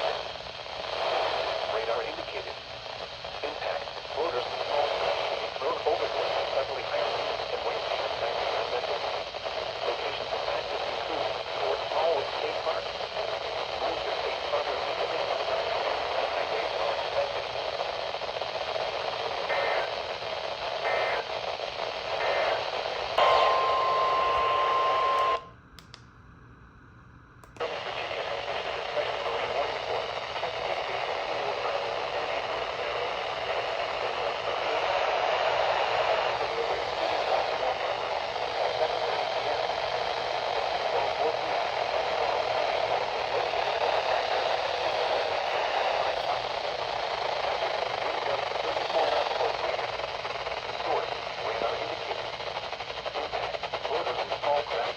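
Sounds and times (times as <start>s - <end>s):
radio static hiss: 0.0s - 25.5s, 27.4s - 54.9s
short static bursts: 0.0s - 25.5s, 27.6s - 54.9s.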